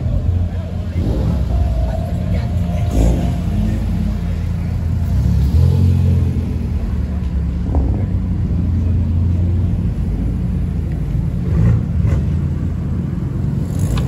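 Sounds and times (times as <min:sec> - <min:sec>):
car exhaust rumbling: 0:00.0 - 0:14.0.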